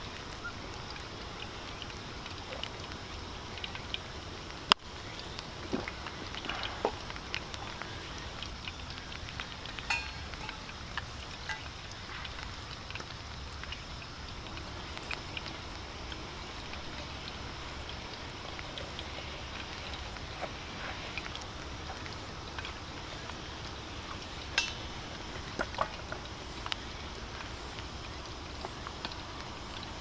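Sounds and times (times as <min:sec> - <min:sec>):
deep-frying sizzle and pops: 0:00.0 - 0:30.0.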